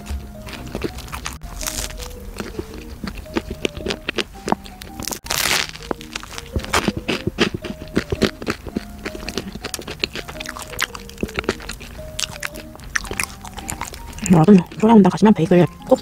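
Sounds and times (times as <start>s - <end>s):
crispy bread crust crunching: 0.0s - 15.4s
soft background music: 0.0s - 16.0s.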